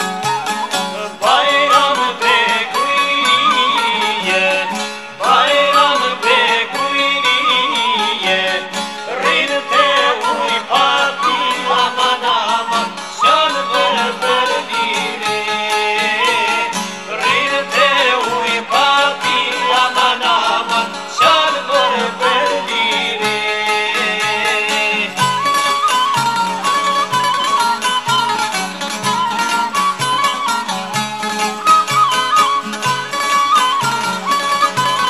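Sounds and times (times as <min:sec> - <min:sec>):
plucked lute folk music: 0:00.0 - 0:35.0.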